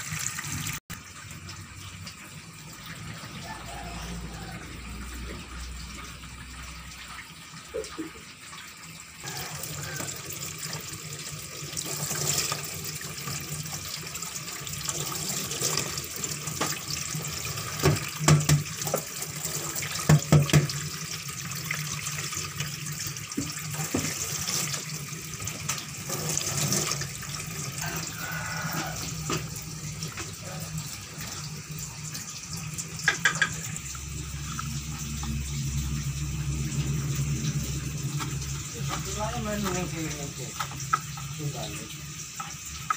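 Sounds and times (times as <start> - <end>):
tap water running into sink: 0.0 - 42.9.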